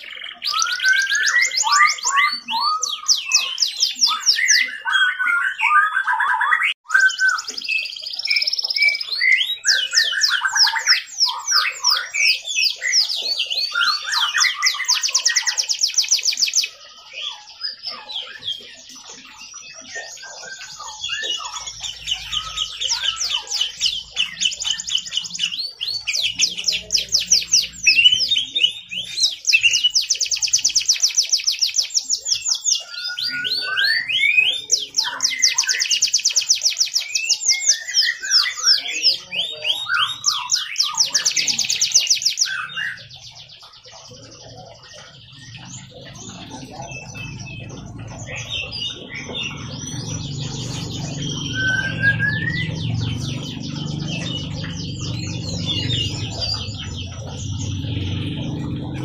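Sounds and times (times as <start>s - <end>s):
canary singing fast trills: 0.0s - 59.0s.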